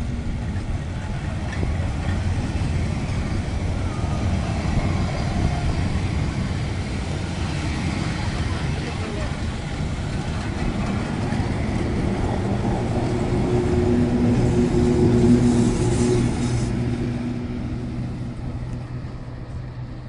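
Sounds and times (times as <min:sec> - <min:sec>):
electric locomotive humming: 0:00.0 - 0:20.0
train carriages rolling on rails: 0:00.0 - 0:20.0.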